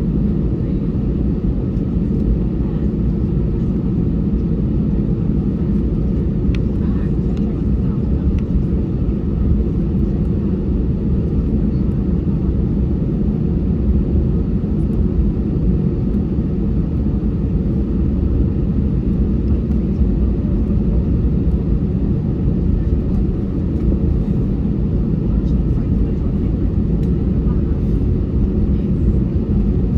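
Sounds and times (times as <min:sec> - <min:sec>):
aircraft cabin engine rumble: 0:00.0 - 0:29.9.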